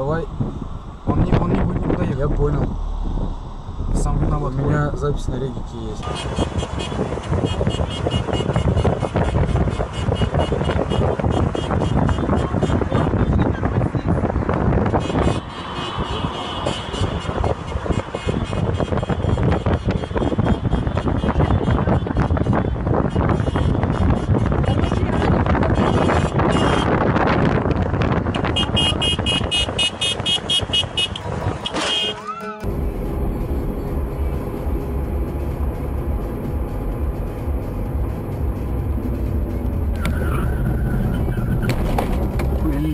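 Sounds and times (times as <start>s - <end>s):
road and wind noise in car: 0.0s - 42.9s.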